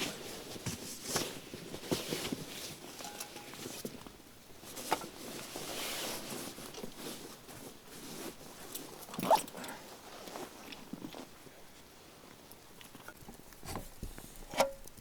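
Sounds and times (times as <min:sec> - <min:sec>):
rustling handling noise: 0:00.0 - 0:14.6.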